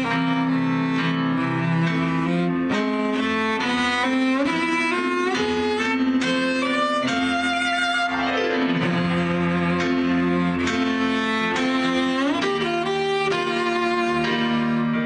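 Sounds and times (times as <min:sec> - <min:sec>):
cello sliding in pitch: 0:00.0 - 0:15.0
piano notes: 0:00.0 - 0:15.0.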